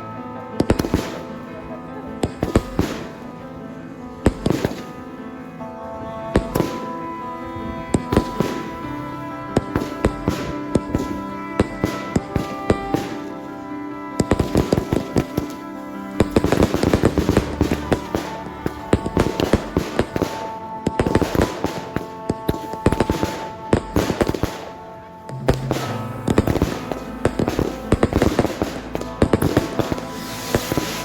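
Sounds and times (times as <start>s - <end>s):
fireworks bangs and crackles: 0.0s - 5.0s, 6.0s - 31.0s
music: 0.0s - 31.0s.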